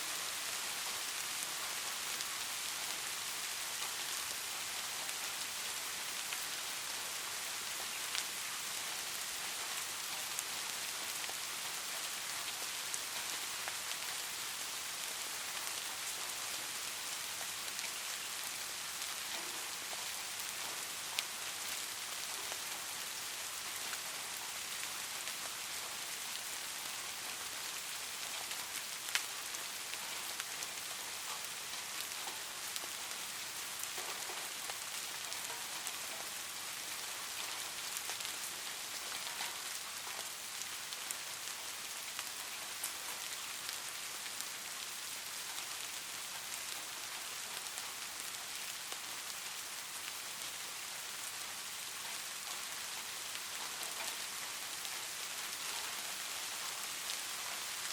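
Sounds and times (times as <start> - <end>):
light rain hiss: 0.0 - 57.9.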